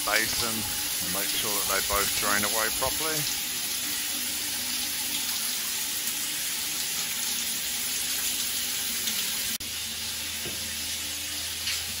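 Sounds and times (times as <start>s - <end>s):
shower spraying on tiled wall: 0.0s - 12.0s.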